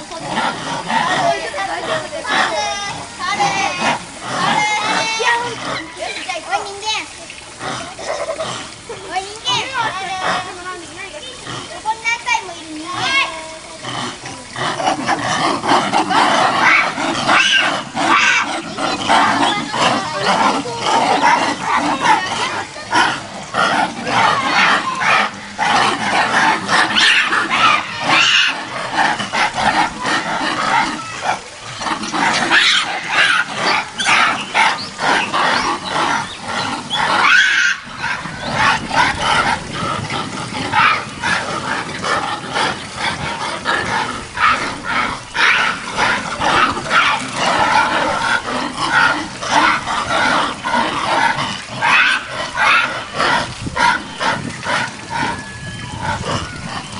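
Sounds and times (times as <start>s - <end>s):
monkeys screaming and calling: 0.0s - 11.9s, 12.8s - 56.9s.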